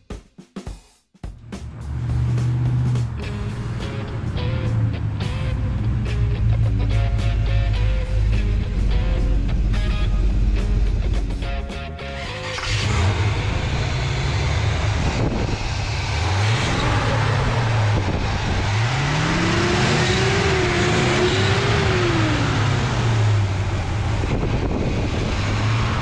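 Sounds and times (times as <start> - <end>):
car engine idling and revving: 1.3 - 26.0.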